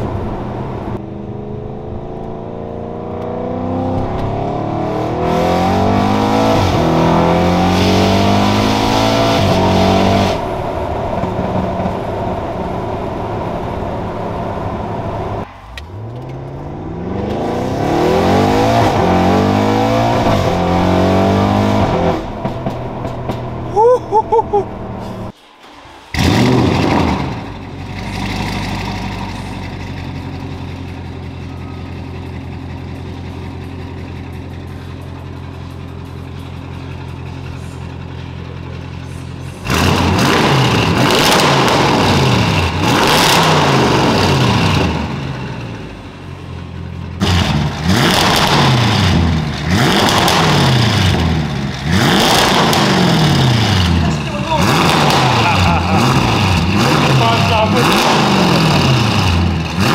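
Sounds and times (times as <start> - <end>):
car engine starting and revving: 0.0 - 59.9.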